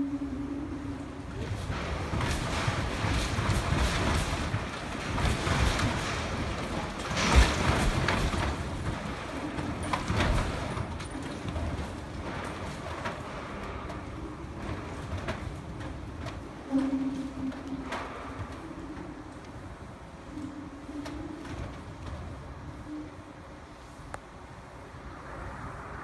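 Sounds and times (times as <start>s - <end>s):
building shaking and rumbling: 0.0s - 26.0s.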